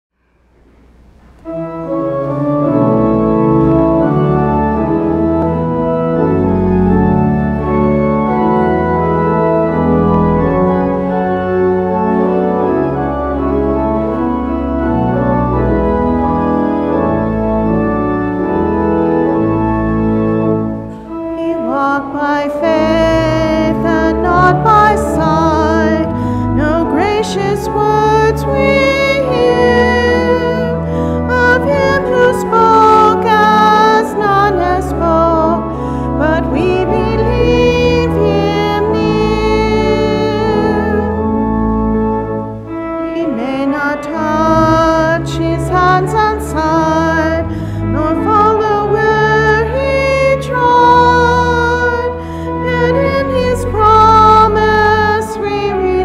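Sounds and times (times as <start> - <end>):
church organ chords: 0.2 - 56.0
higher melody with vibrato: 0.2 - 56.0.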